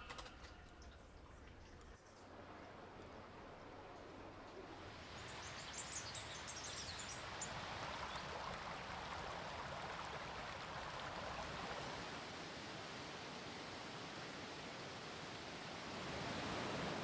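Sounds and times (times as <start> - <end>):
stream water rushing: 2.3 - 17.0.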